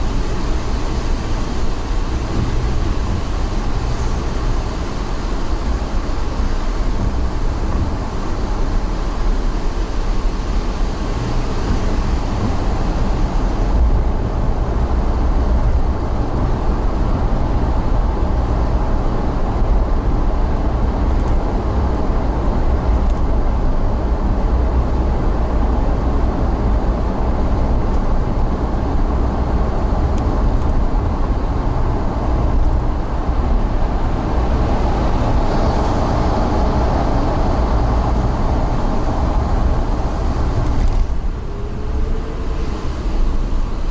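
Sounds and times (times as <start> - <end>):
moving vehicle rumble: 0.0 - 43.9.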